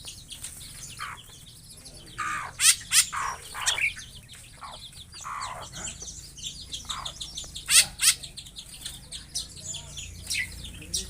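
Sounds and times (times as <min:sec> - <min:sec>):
birds chirping: 0:00.0 - 0:11.0
harsh bird calls: 0:00.0 - 0:11.0.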